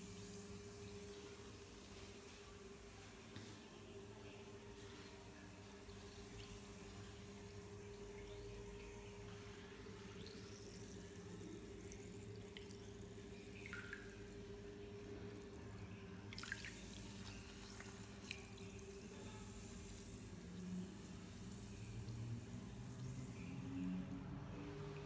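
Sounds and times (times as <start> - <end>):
bath water dripping and trickling: 0.0 - 3.5, 4.8 - 25.0.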